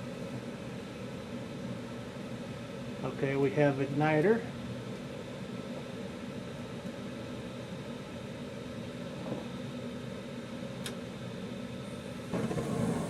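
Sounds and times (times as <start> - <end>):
furnace fan running: 0.0 - 13.0.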